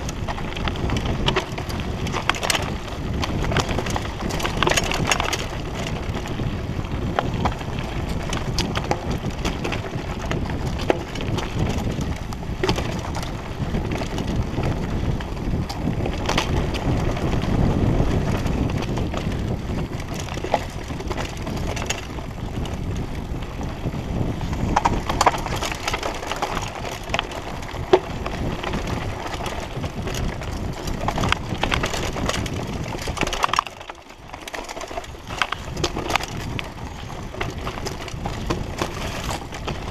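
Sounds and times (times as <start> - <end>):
bike rattling knocks and clicks: 0.0 - 39.9
tyre noise on dirt: 0.0 - 39.9.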